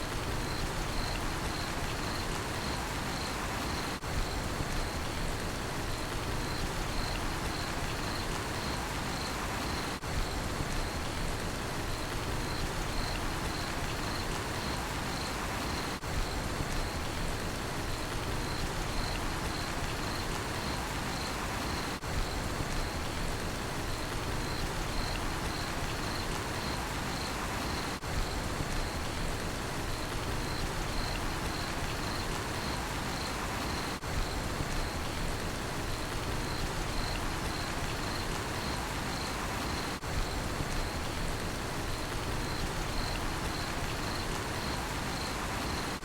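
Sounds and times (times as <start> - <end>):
steady rain: 0.0 - 46.0
cricket chirping: 0.2 - 5.2, 6.3 - 11.2, 12.0 - 17.1, 18.3 - 23.2, 24.0 - 29.2, 29.9 - 35.2, 35.9 - 41.2, 41.8 - 46.0.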